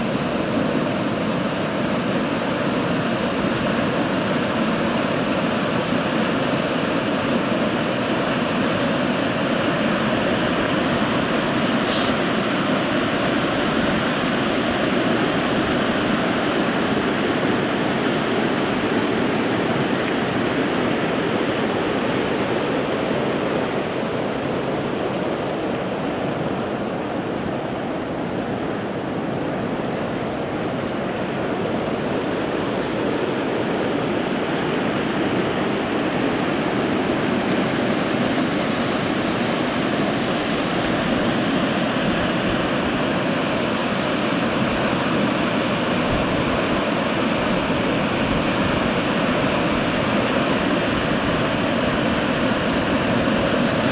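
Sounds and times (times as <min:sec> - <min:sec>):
river rushing: 0:00.0 - 0:53.9.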